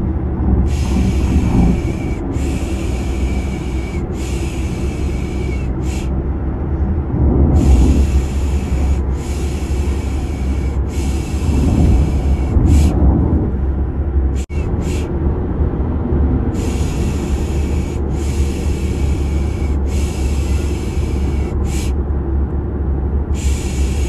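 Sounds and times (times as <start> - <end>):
car rumble: 0.0 - 24.0.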